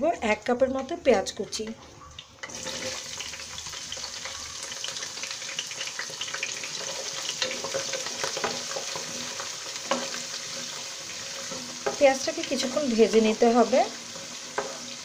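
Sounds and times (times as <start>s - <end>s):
onion sizzling in hot oil: 2.4s - 15.0s.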